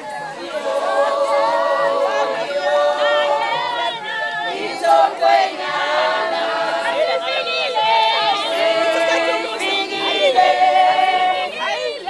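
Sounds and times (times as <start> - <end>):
women singing in chorus: 0.0 - 12.0.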